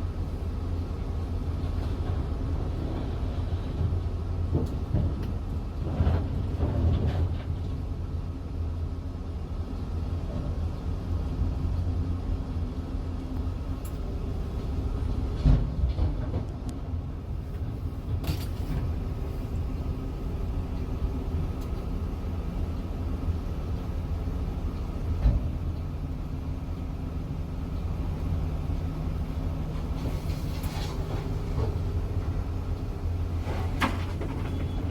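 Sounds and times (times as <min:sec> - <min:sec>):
excavator diesel engine rumbling: 0:00.0 - 0:34.9.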